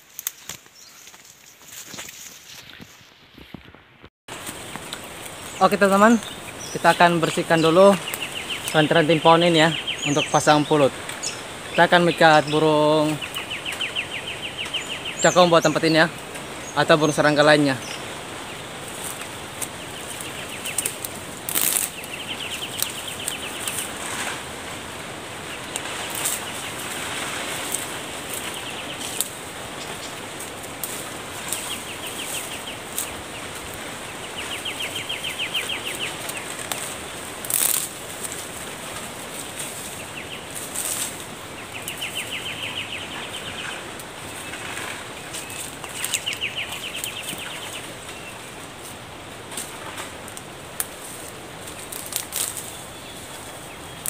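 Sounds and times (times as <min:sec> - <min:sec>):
leaves and branches rustling: 0:00.0 - 0:54.0
twigs cracking: 0:00.0 - 0:54.0.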